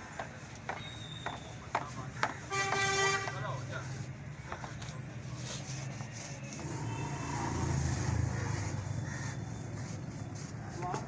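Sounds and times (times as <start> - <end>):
vehicle engine humming: 0.3 - 11.0.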